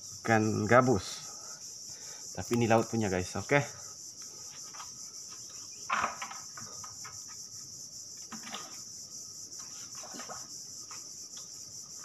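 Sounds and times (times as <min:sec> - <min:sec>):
insect chorus chirring: 0:00.0 - 0:12.0.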